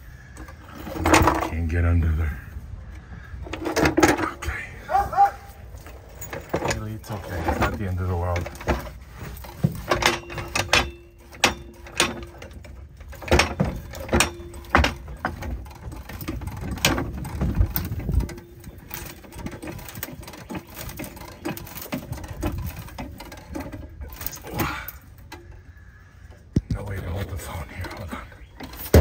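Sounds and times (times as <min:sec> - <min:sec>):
knocks and thumps of jack and wood: 0:00.3 - 0:01.7, 0:03.4 - 0:29.0.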